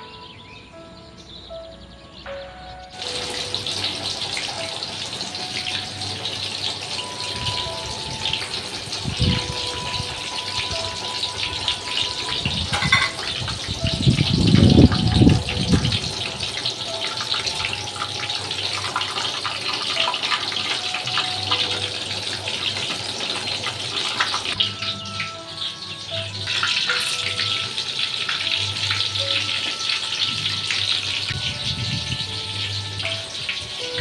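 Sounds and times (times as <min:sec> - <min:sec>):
hot oil sizzling in a wok: 0:02.9 - 0:34.0.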